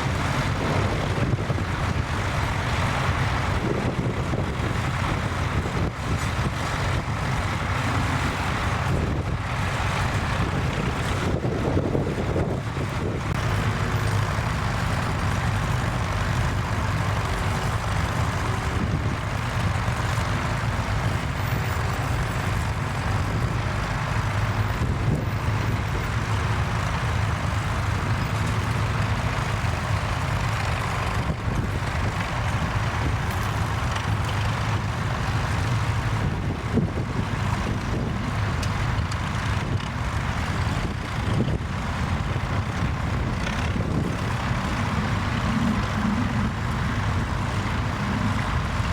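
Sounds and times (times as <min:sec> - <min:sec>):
tractor engine droning: 0:00.0 - 0:48.9.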